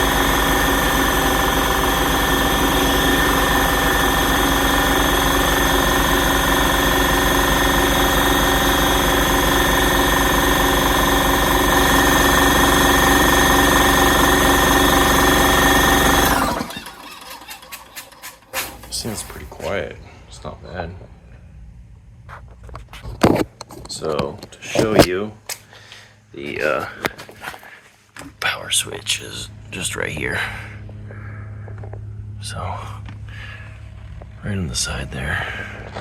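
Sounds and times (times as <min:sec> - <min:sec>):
air compressor humming with whine: 0:00.0 - 0:22.3, 0:24.5 - 0:36.0.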